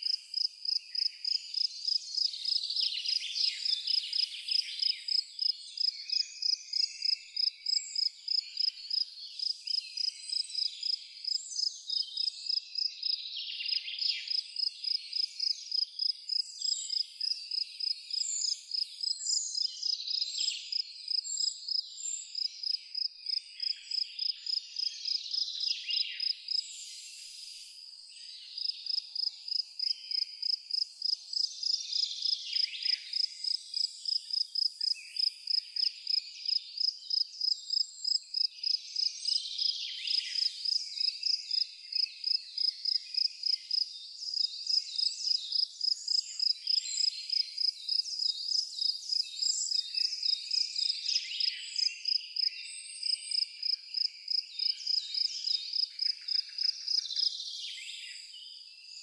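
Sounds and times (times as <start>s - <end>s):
cricket chirping: 0.0s - 27.9s, 28.5s - 58.3s
birds singing: 0.0s - 59.0s.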